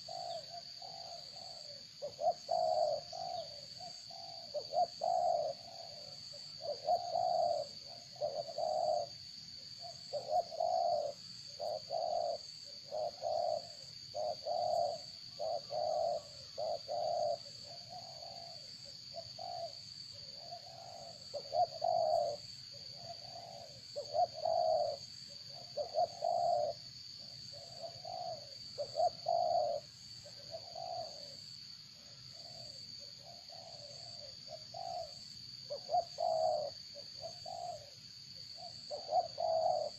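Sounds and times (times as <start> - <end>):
bird cooing: 0.0 - 39.9.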